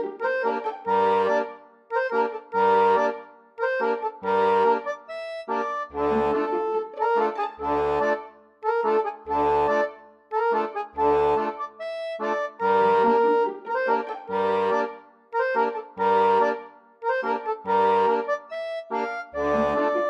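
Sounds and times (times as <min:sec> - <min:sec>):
instrumental background music: 0:00.0 - 0:20.0.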